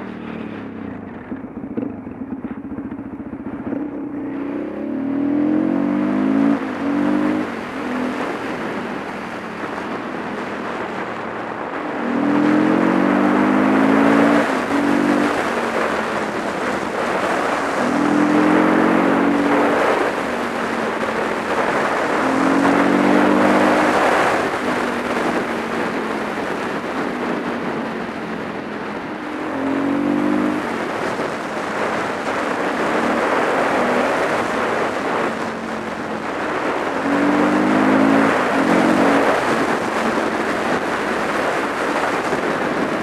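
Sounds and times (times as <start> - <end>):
motorcycle engine pulling uphill: 0.0 - 43.0
wind rush on microphone: 0.0 - 43.0.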